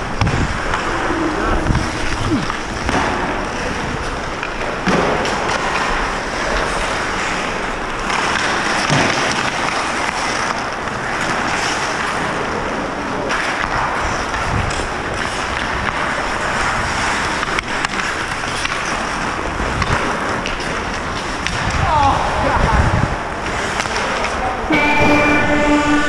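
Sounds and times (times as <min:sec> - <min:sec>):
skate blades scraping ice: 0:00.0 - 0:26.0
hockey sticks and puck knocking: 0:00.2 - 0:21.8.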